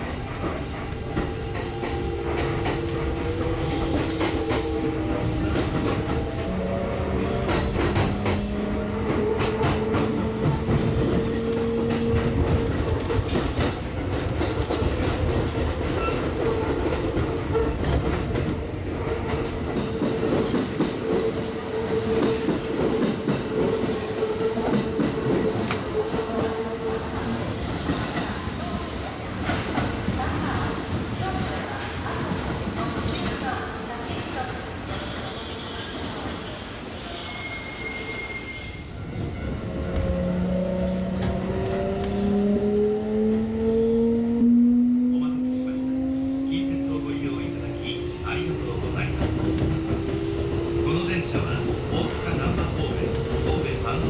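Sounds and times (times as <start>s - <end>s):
electric train whine: 0.0s - 26.0s, 36.4s - 54.0s.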